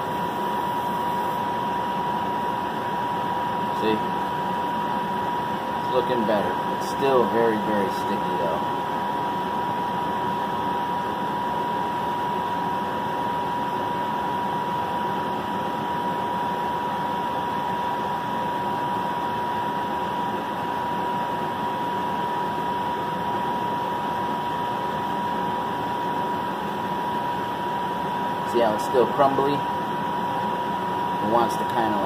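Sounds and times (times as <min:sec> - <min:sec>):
thin whine: 0:00.0 - 0:16.2, 0:21.9 - 0:32.0.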